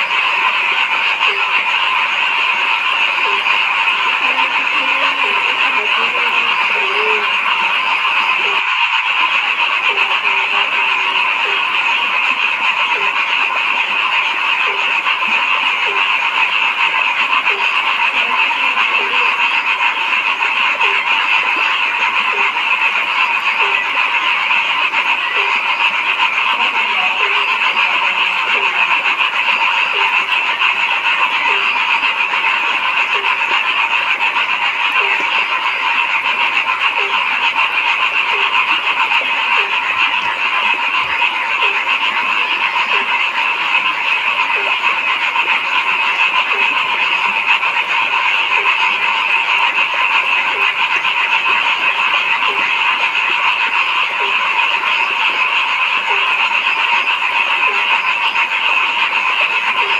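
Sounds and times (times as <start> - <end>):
deep frog croaking: 0.0 - 59.9
frog chorus: 0.0 - 59.9.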